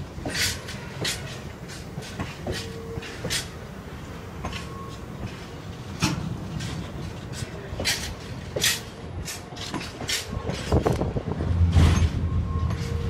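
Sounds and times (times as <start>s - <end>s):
low train rumble: 0.0s - 13.0s
train wheels clicking over rails: 0.0s - 13.0s.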